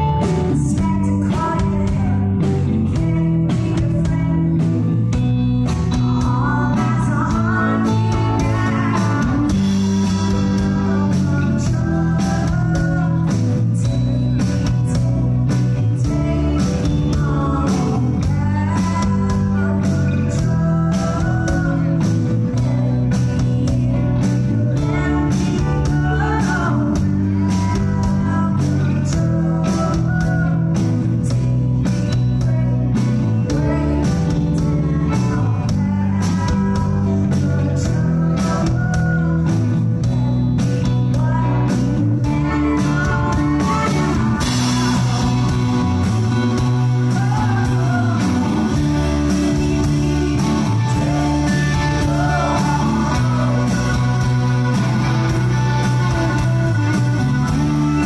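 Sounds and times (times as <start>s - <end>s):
electric guitar: 0.0s - 58.0s
steady drum beat: 0.0s - 58.0s
woman singing: 0.0s - 58.0s.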